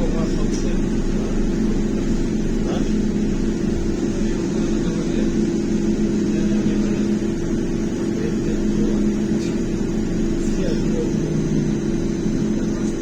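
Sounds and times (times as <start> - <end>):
low running rumble: 0.0 - 13.0
two-tone electrical hum: 0.0 - 13.0.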